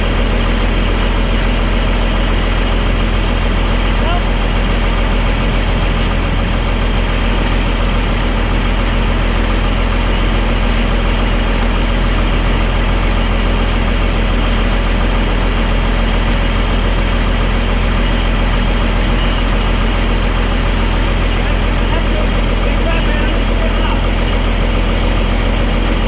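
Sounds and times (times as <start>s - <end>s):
bulldozer diesel engine idling: 0.0s - 26.0s.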